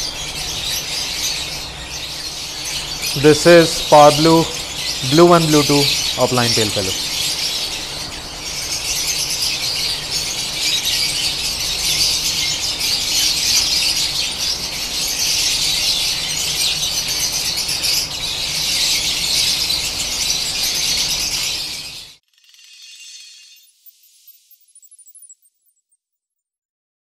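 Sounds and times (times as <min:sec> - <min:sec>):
birds chattering: 0:00.0 - 0:22.1.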